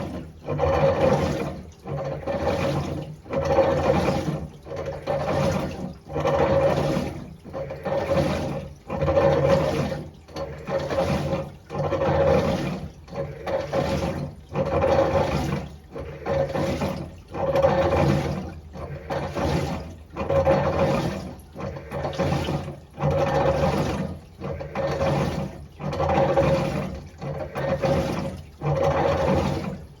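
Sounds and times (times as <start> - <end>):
washing machine agitating: 0.0 - 30.0
water churning: 0.0 - 30.0.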